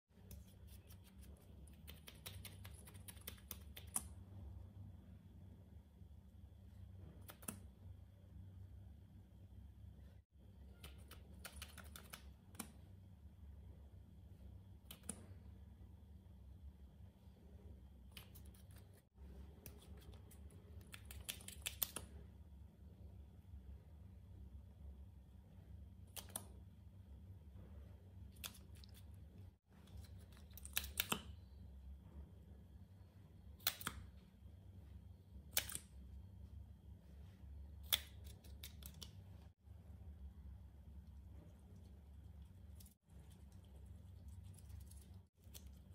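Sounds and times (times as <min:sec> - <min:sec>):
faint low hum: 0:00.1 - 0:45.9.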